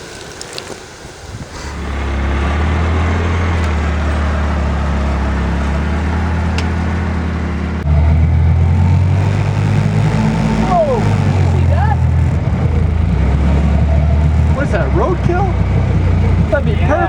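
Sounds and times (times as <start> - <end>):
vehicle engine running: 1.5 - 17.0.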